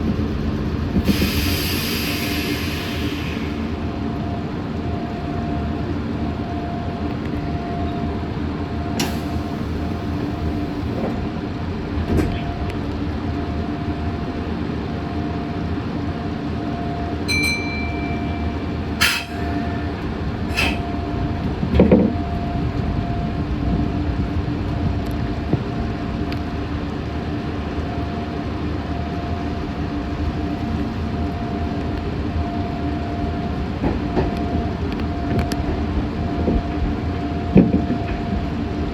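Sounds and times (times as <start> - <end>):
electric train rumble: 0.0 - 38.9.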